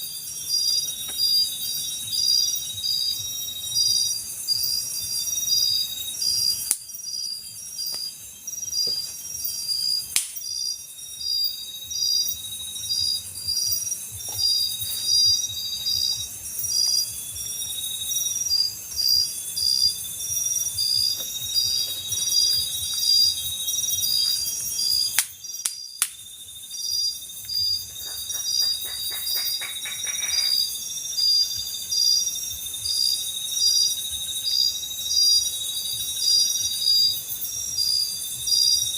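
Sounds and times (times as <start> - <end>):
crickets chirping: 0.0 - 38.9
high insect trill: 0.0 - 38.9.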